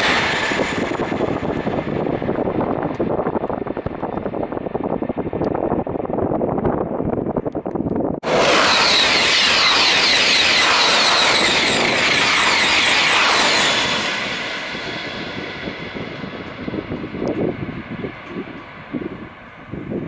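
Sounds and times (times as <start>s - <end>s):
high-speed train passing: 0.0s - 6.0s, 8.2s - 20.0s
wind on microphone: 0.0s - 20.0s.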